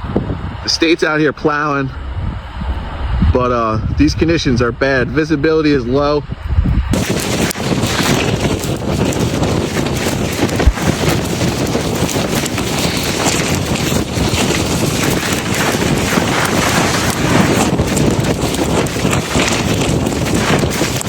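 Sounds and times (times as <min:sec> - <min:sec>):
blizzard wind buffeting microphone: 0:00.0 - 0:21.0.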